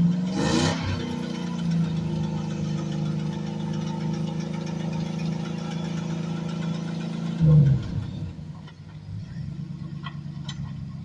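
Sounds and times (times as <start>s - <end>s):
engine revving: 0.0s - 11.0s
off-road vehicle engine running: 0.0s - 11.0s.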